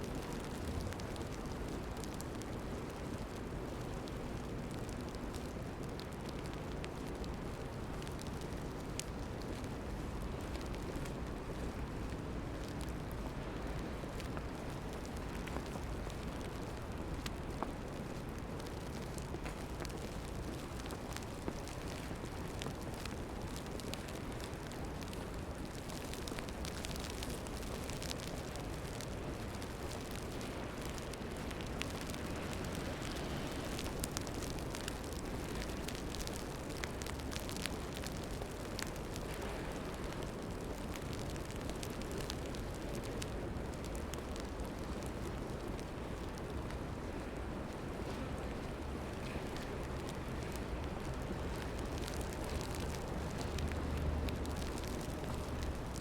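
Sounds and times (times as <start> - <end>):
faint crackling ticks: 0.0 - 56.0
rumbling city street noise: 0.0 - 56.0.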